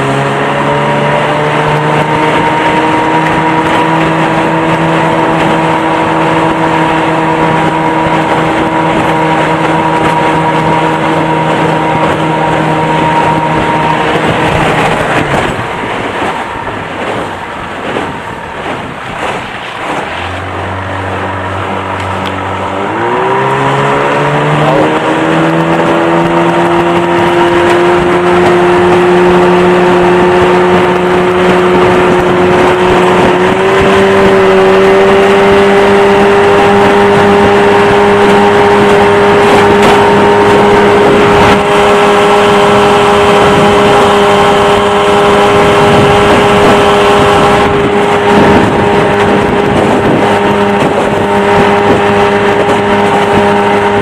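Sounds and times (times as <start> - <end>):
outboard motor running: 0.0 - 54.0
water noise: 0.0 - 54.0
wind: 0.0 - 54.0.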